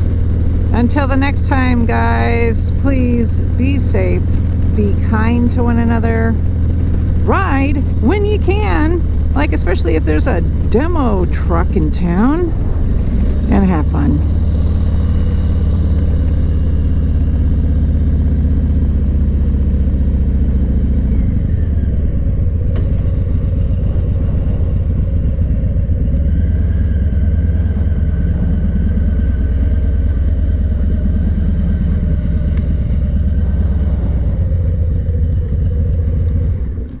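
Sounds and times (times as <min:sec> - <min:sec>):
road noise: 0:00.0 - 0:37.0
vehicle engine droning: 0:00.0 - 0:37.0.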